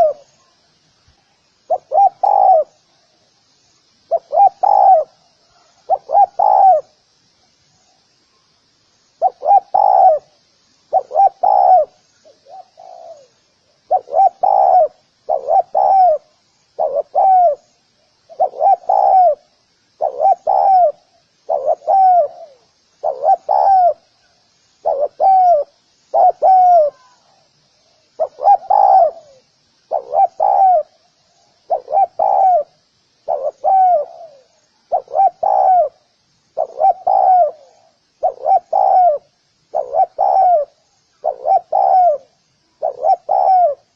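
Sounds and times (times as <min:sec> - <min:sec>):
dove cooing: 0:00.0 - 0:00.5, 0:01.7 - 0:02.8, 0:04.1 - 0:07.0, 0:09.2 - 0:17.7, 0:18.3 - 0:24.1, 0:24.8 - 0:27.4, 0:28.2 - 0:31.0, 0:31.6 - 0:43.9.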